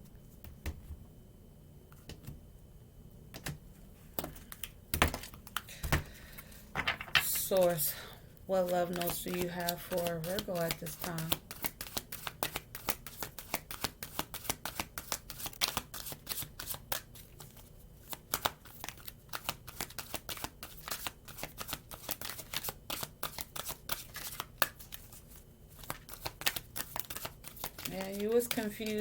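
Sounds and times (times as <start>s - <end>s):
cards being shuffled: 4.2s - 7.6s, 8.6s - 29.0s.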